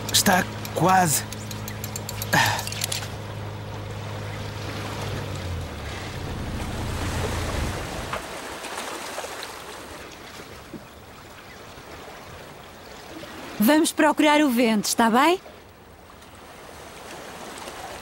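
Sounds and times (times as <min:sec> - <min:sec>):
boat motor humming: 0:00.0 - 0:18.0
wind and water wash: 0:00.0 - 0:18.0.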